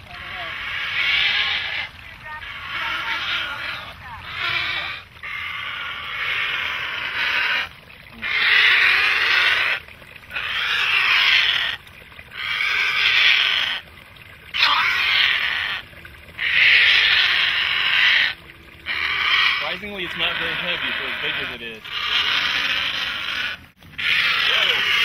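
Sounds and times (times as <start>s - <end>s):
heron harsh squawks: 0.1s - 13.8s, 14.6s - 15.8s, 16.4s - 25.0s.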